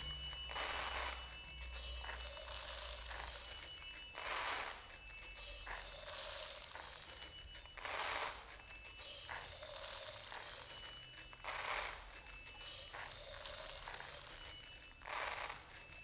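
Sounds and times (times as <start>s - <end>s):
rice grains pattering on bells: 0.0s - 16.0s
thin ringing bell tones: 0.0s - 16.0s.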